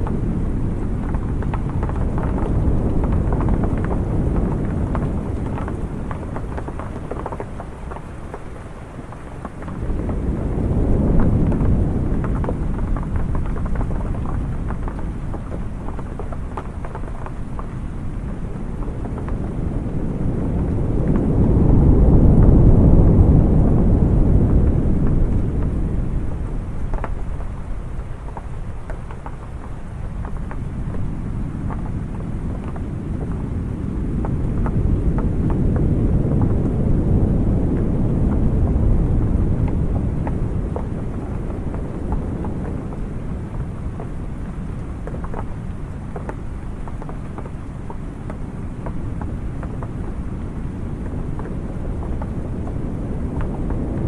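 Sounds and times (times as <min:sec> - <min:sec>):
ocean surf rumbling: 0:00.0 - 0:54.0
rain on a wooden awning: 0:00.0 - 0:54.0.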